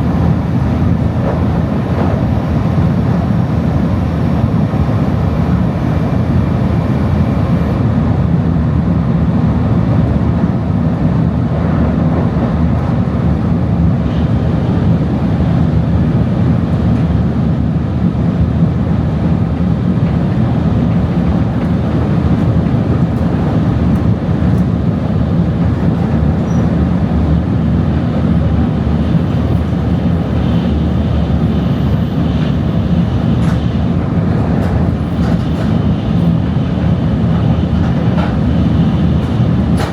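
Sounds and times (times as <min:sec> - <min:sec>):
train rumbling inside car: 0:00.0 - 0:39.9.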